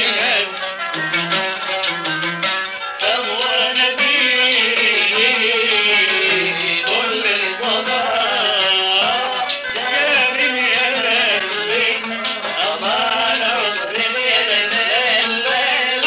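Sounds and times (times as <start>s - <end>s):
man singing: 0.0s - 0.6s, 3.0s - 16.0s
hand percussion: 0.0s - 16.0s
plucked qanun: 0.0s - 16.0s.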